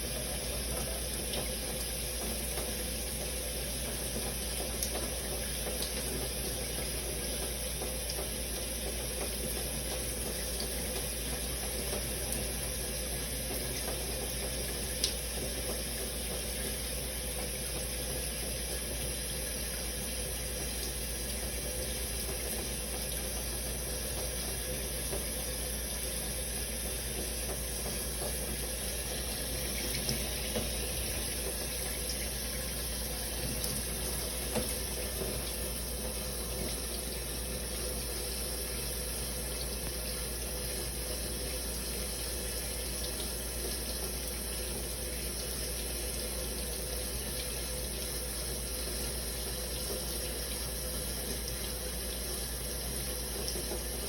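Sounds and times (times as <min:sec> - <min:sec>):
shower running: 0:00.0 - 0:54.0.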